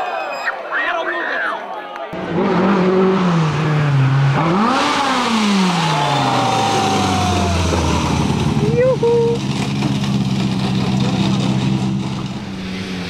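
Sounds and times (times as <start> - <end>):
racing car engine: 2.2 - 13.0.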